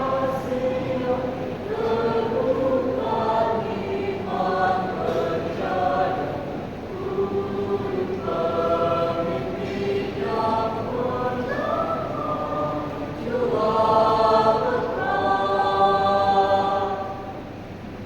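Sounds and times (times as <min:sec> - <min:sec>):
choir singing in harmony: 0:00.0 - 0:17.7.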